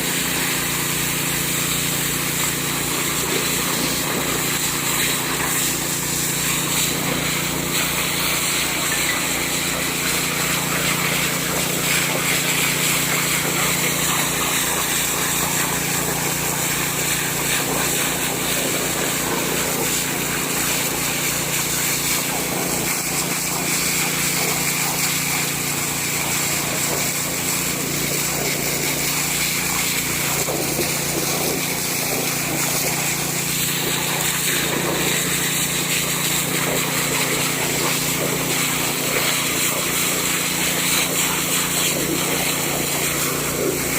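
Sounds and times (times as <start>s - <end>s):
small petrol water pump engine running: 0.0s - 43.9s.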